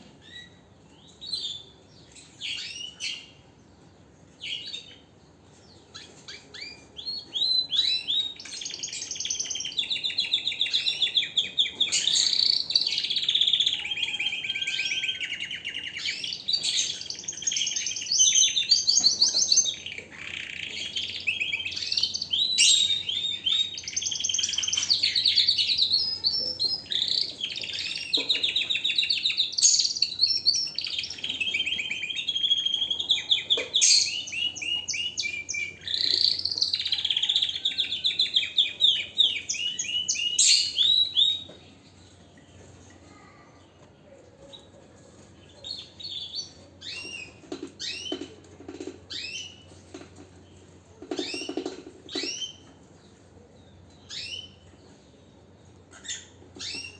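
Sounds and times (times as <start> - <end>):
canary singing: 0.1 - 43.8, 44.4 - 56.9.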